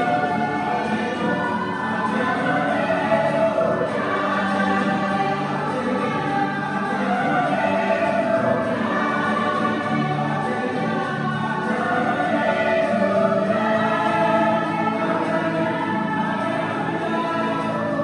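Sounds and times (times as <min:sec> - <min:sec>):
choir singing slow melody: 0:00.0 - 0:18.0.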